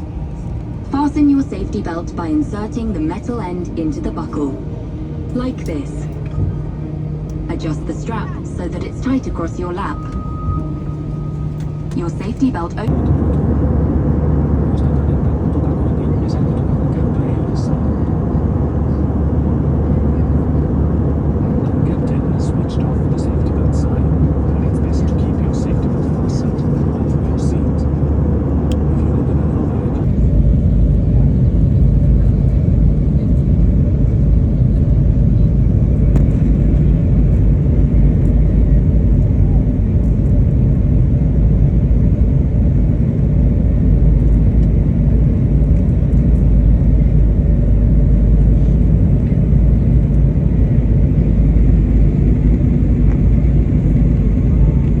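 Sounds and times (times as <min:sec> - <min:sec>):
jet airliner cabin rumble: 0:00.0 - 0:55.0.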